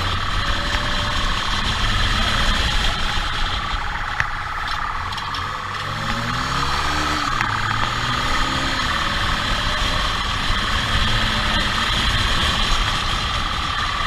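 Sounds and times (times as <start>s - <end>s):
motorcycle engine revving: 0.0s - 14.0s
wind rush on microphone: 0.0s - 14.0s.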